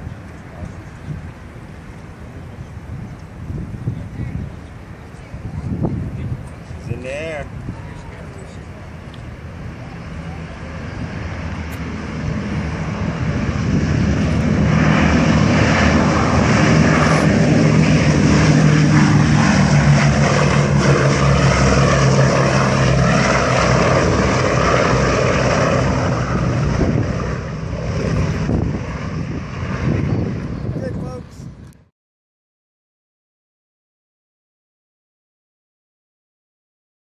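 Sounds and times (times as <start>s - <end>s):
propeller aircraft engines droning: 0.0s - 31.9s.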